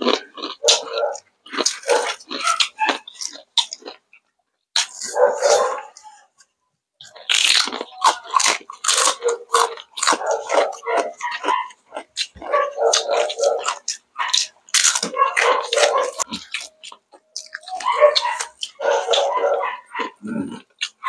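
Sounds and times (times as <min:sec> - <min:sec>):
crunching crispy food: 0:00.0 - 0:06.1, 0:07.0 - 0:21.0.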